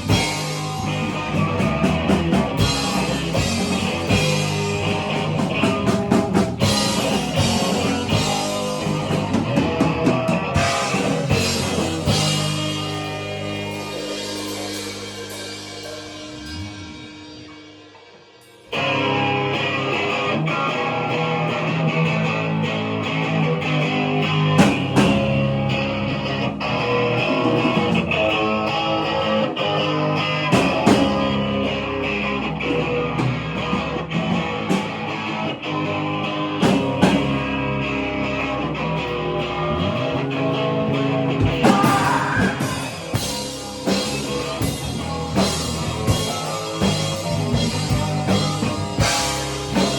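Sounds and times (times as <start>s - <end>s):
rock music with guitar and drums: 0.0s - 49.9s.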